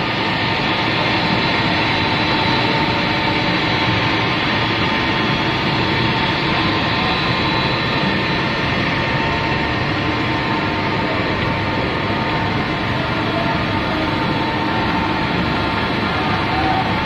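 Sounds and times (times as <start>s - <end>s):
steady hum tones: 0.0s - 17.0s.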